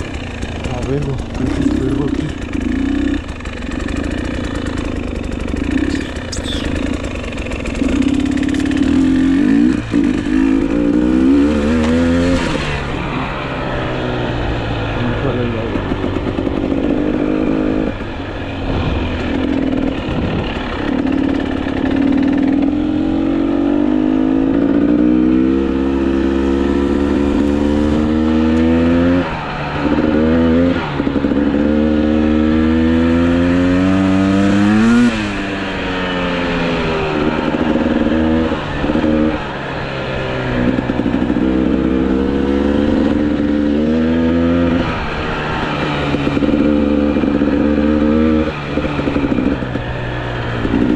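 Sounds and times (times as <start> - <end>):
dirt bike engine accelerating: 0.0 - 50.9.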